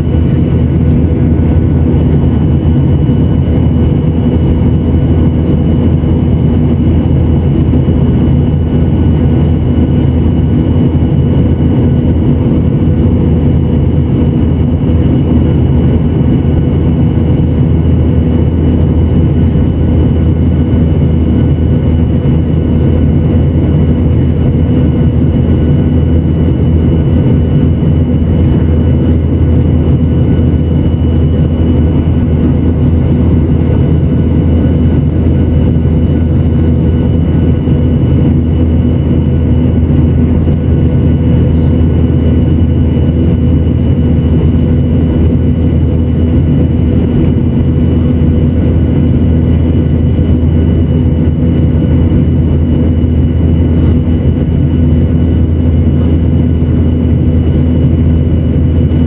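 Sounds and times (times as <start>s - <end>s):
jet engines droning in cabin: 0.0s - 59.0s.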